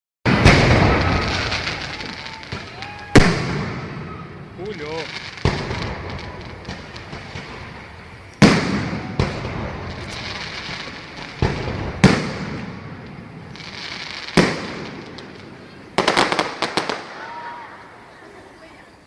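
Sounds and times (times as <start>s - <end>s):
fireworks booming: 0.3s - 18.8s
fireworks crackling: 0.3s - 19.0s.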